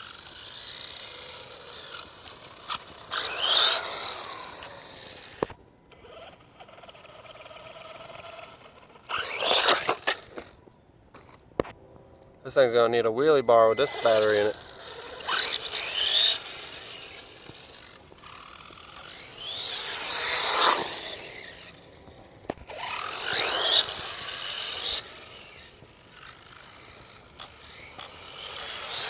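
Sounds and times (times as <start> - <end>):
electric motor whining: 0.0 - 10.5, 13.2 - 29.0.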